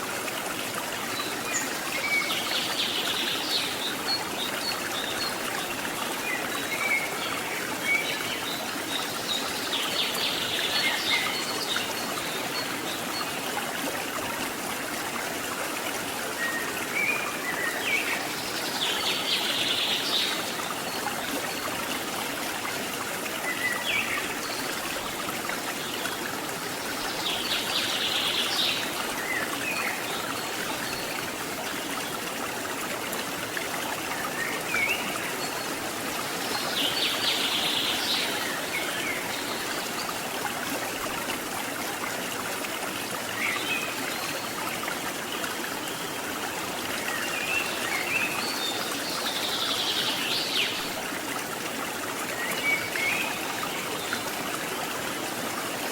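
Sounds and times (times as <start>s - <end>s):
stream water running: 0.0s - 55.9s.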